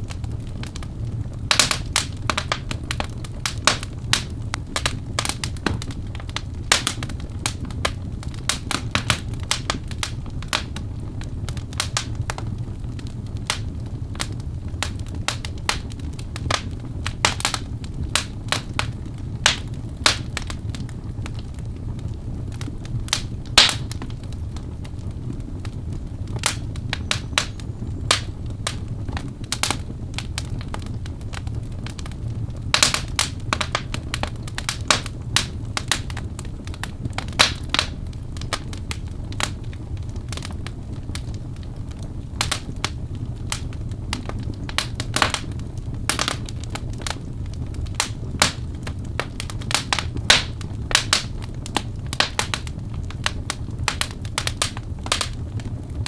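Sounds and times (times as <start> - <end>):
logs crackling and popping: 0.0 - 56.0
low rush of flames: 0.0 - 56.0.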